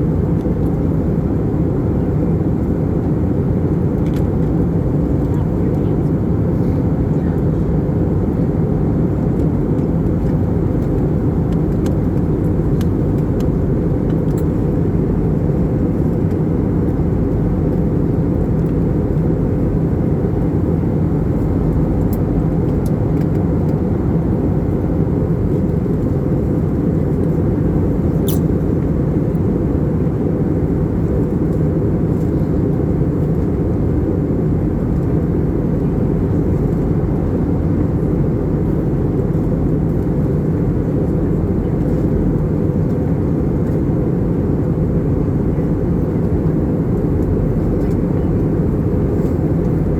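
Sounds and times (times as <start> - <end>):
aircraft cabin engine rumble: 0.0 - 49.9.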